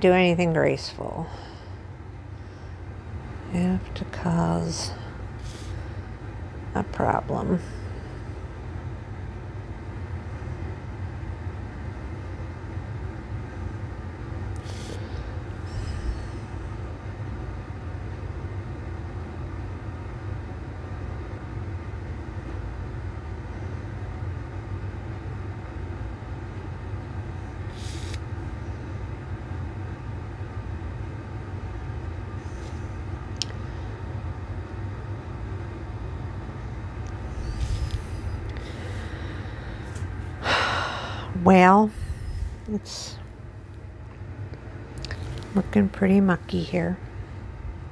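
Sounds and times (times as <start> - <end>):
low machine rumble: 0.0 - 47.9.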